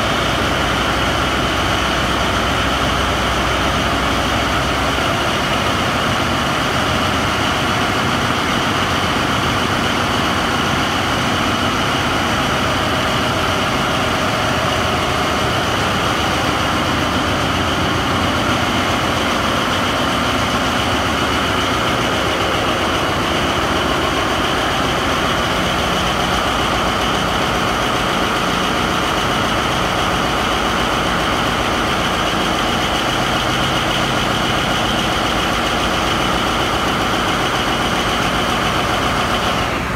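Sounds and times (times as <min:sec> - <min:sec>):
diesel engine room drone: 0:00.0 - 0:39.9.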